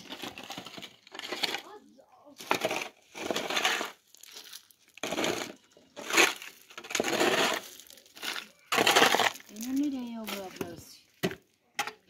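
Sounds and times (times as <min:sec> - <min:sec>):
shovel scraping gravel on concrete: 0:00.0 - 0:10.9.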